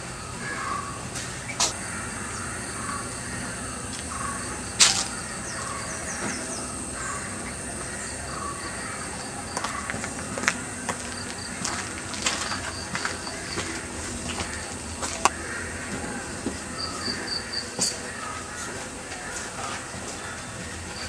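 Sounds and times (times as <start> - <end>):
birds calling: 0.0 - 21.0
high-pitched whine: 0.0 - 21.0.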